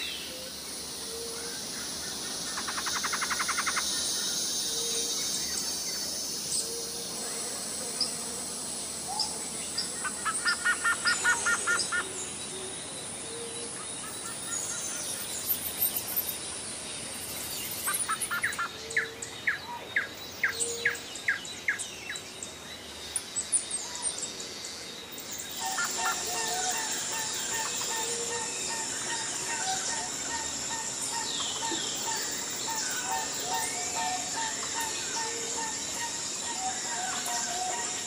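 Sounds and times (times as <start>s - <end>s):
birds singing and chirping: 0.0s - 38.0s
steady high hiss: 0.0s - 38.0s.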